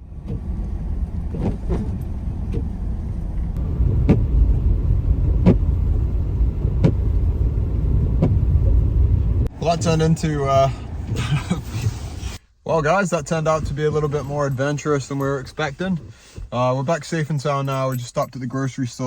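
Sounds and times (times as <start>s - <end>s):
road and engine rumble: 0.0s - 19.0s.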